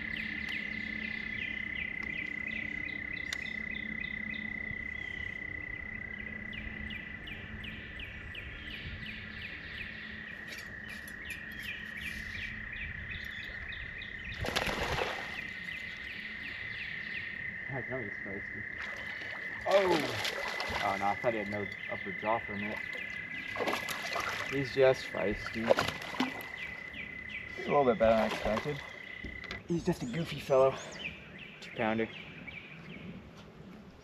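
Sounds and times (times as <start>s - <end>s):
steady high-pitched whine: 0.0s - 34.0s.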